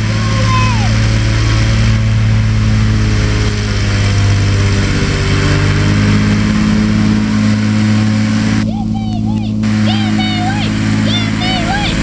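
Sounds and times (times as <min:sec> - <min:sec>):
airboat engine and propeller: 0:00.0 - 0:12.0.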